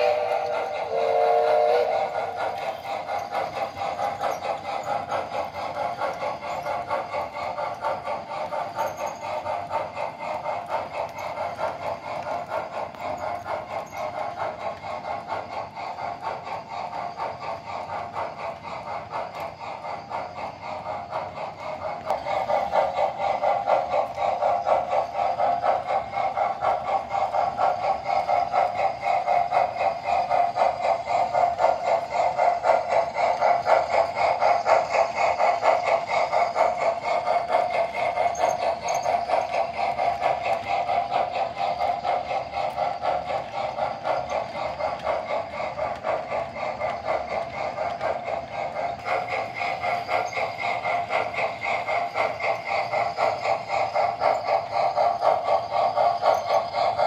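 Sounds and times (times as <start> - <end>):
model train clattering on track: 0.0 - 57.0.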